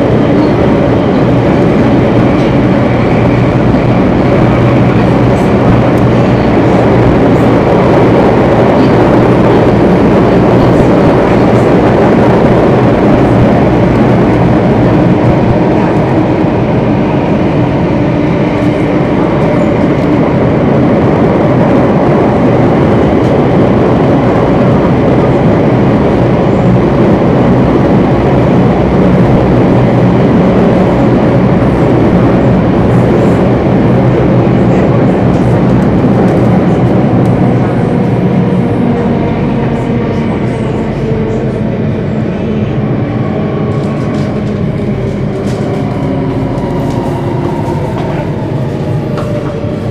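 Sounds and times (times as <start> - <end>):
constant hum of held tones: 0.0 - 49.9
train rumbling in tunnel: 0.0 - 49.9.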